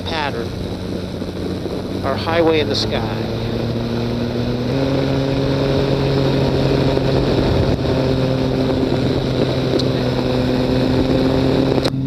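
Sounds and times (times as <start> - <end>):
aircraft engine and propeller: 0.0 - 12.0
wind noise: 0.0 - 12.0.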